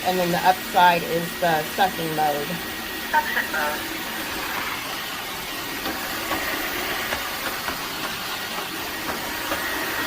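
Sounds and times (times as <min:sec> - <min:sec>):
vacuum mop whirring: 0:00.0 - 0:10.0.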